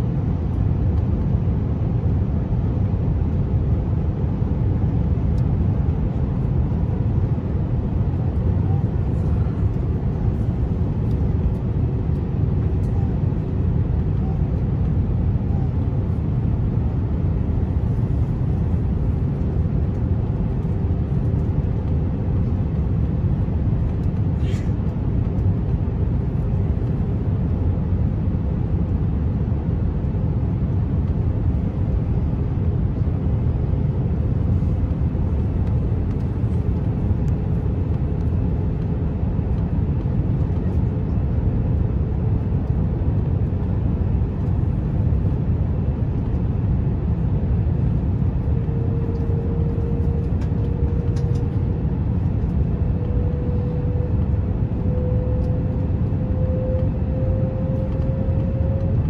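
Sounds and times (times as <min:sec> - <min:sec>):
aircraft cabin engine rush: 0:00.0 - 0:59.0
faint hum: 0:00.0 - 0:59.0.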